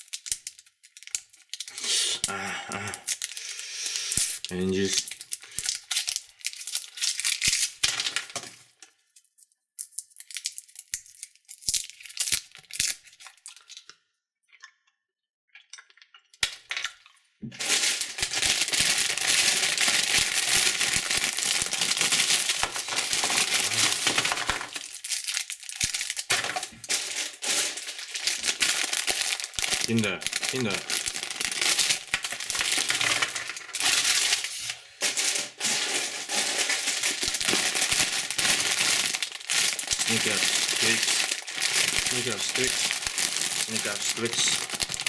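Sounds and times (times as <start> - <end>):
candy wrappers crinkling: 0.0 - 13.9, 15.8 - 45.0.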